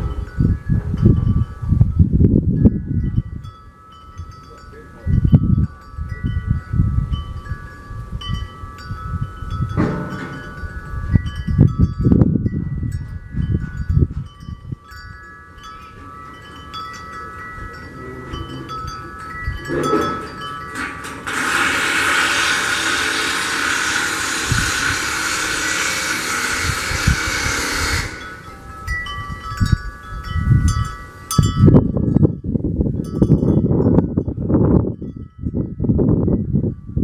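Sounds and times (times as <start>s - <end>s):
wind chimes ringing: 0.0s - 21.3s, 28.1s - 37.0s.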